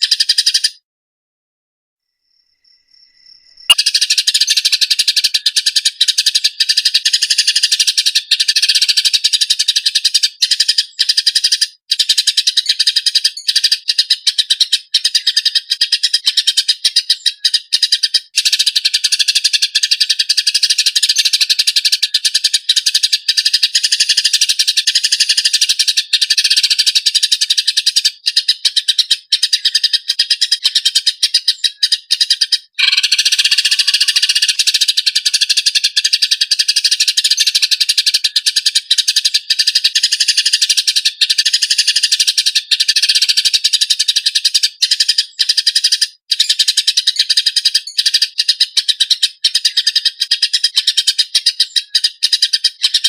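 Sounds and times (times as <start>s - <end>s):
sparrows chirping rapidly: 0.0s - 0.8s, 2.6s - 53.0s.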